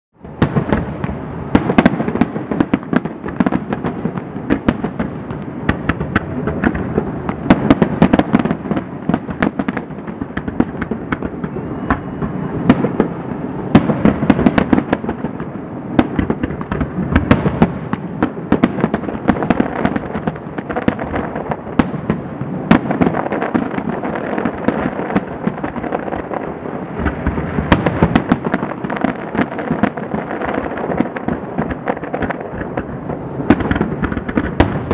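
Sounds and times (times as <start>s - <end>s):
fireworks bursting: 0.2s - 34.9s.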